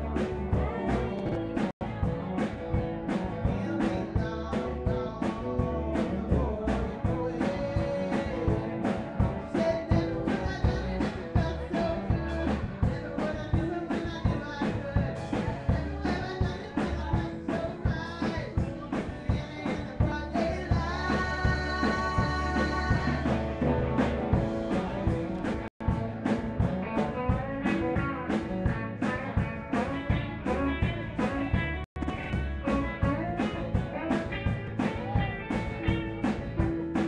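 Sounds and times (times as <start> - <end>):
drum kit beat: 0.0 - 37.0
live rock band: 0.0 - 37.0.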